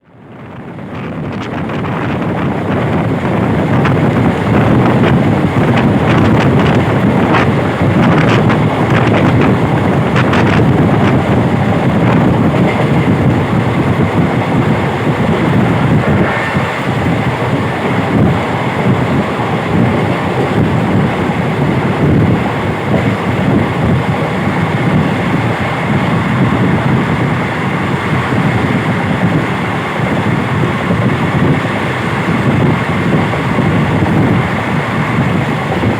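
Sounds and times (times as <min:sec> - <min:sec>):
moving train noise: 0:00.0 - 0:35.9
wind on microphone: 0:00.0 - 0:35.9.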